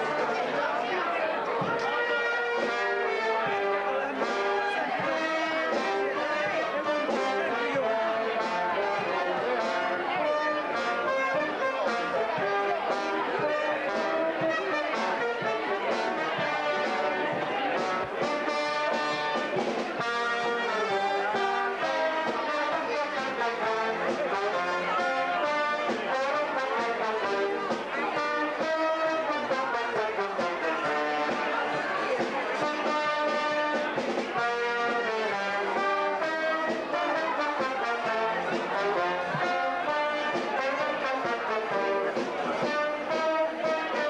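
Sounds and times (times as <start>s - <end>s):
live brass band with trumpets: 0.0s - 44.0s.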